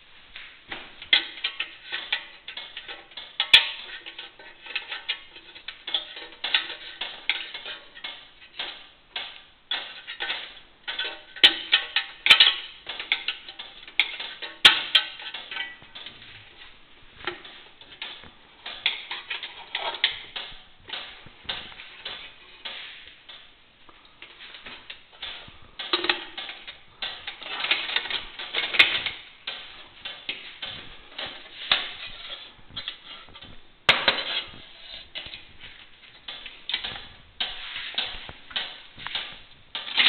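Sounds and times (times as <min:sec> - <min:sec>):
metal helmet plates clinking: 0:00.7 - 0:23.6, 0:24.2 - 0:40.0.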